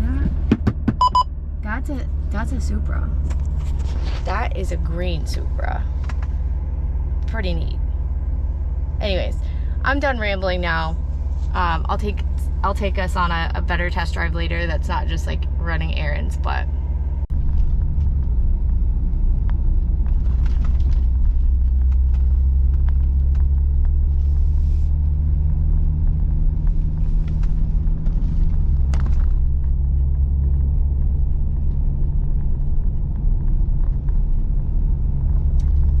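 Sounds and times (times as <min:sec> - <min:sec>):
road rumble: 0:00.0 - 0:36.0.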